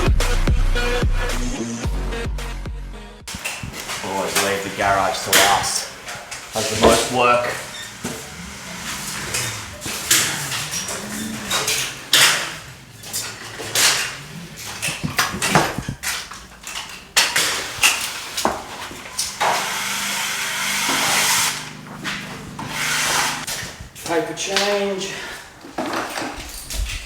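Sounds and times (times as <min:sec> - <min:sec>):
hand tools knocking and scraping: 0:03.3 - 0:27.0.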